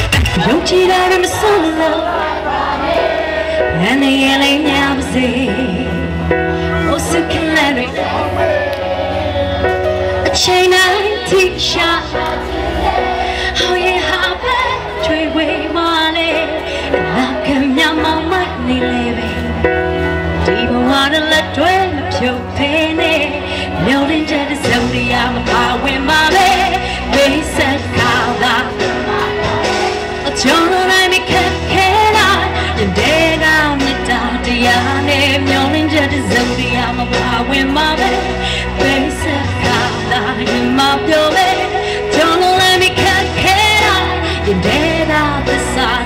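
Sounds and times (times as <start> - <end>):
loud amplified backing music: 0.0 - 46.0
woman singing into microphone: 0.2 - 46.0.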